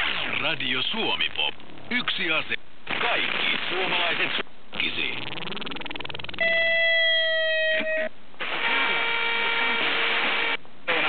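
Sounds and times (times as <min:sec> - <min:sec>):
radio hiss: 0:00.0 - 0:06.4, 0:08.4 - 0:11.0
radio stations broadcast audio: 0:00.0 - 0:06.5, 0:07.8 - 0:11.0.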